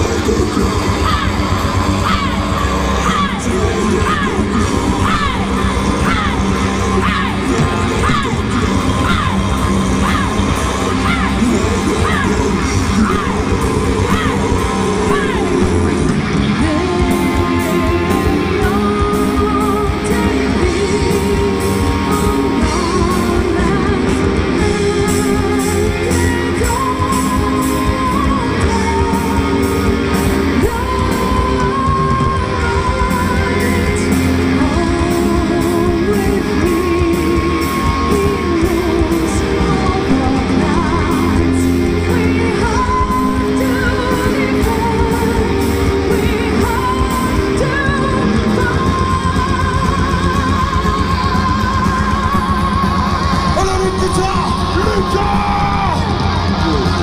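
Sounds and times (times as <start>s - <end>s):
metal band playing live: 0.0s - 57.0s
person singing: 0.0s - 57.0s.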